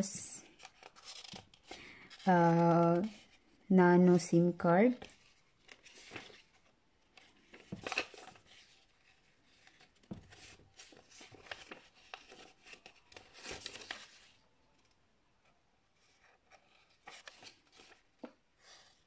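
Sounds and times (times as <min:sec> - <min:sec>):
paper rustling and crinkling: 0:00.4 - 0:03.6, 0:04.8 - 0:15.0, 0:16.0 - 0:19.0.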